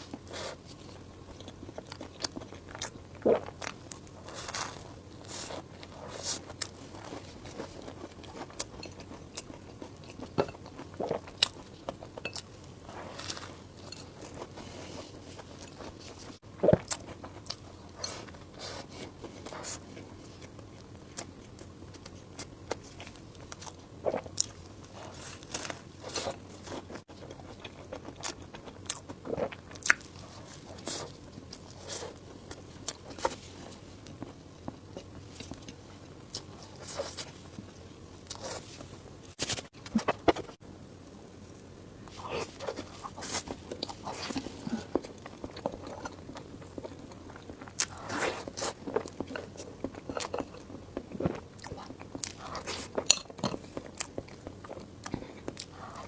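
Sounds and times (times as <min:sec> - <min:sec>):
chewing with crunchy clicks: 0:00.0 - 0:40.6, 0:41.5 - 0:56.0.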